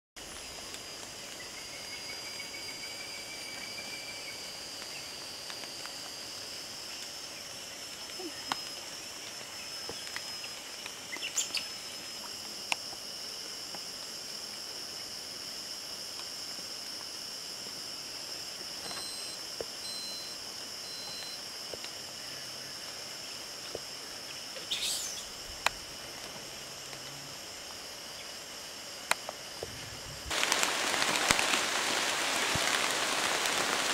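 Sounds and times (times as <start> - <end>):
insects droning: 0.2 - 33.9.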